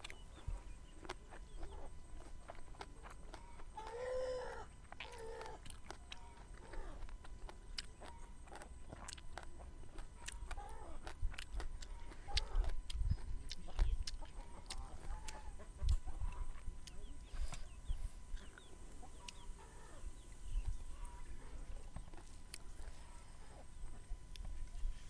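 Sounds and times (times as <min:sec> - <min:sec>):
chewing raw vegetables: 0:00.0 - 0:24.8
chickens clucking: 0:00.0 - 0:25.0.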